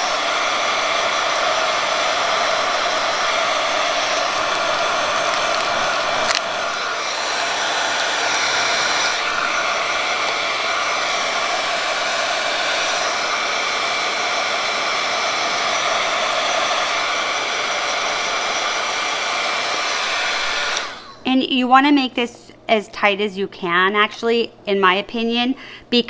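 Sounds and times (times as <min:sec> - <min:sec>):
heat gun blowing with whine: 0:00.0 - 0:21.3.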